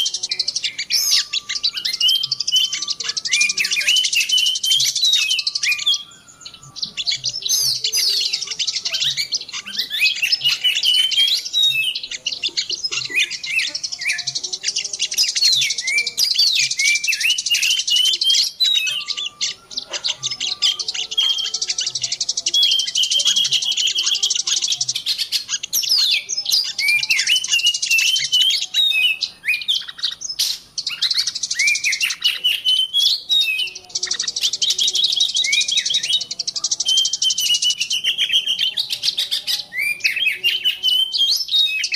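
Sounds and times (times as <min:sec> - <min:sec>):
songbirds chirping chorus: 0:00.0 - 0:41.9.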